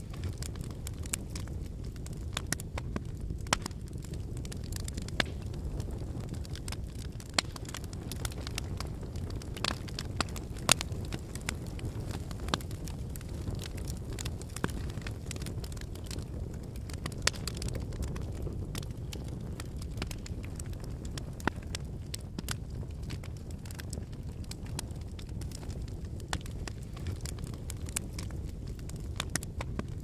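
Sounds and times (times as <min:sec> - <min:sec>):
logs crackling and popping: 0:00.0 - 0:30.0
wood fire burning: 0:00.0 - 0:30.0.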